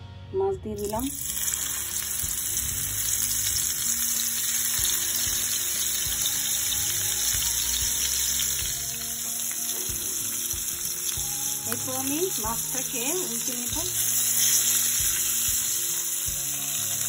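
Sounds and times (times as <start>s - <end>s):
fish sizzling in hot oil: 0.8s - 17.0s.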